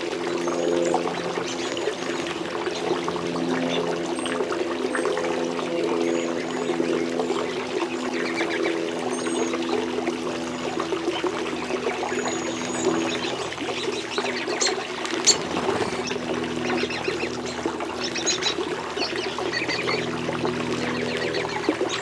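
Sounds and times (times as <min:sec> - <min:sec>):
small waterfall trickling: 0:00.0 - 0:22.0.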